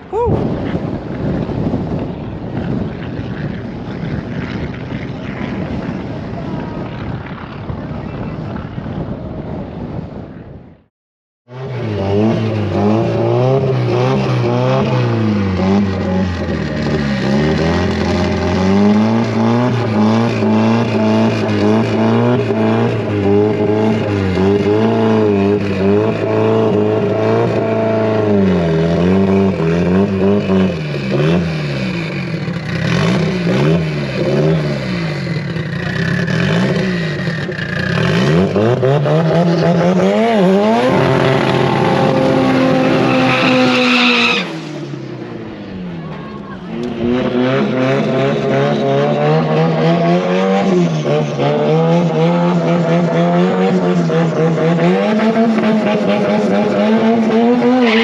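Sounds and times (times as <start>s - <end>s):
racing car engines revving: 11.5s - 58.0s.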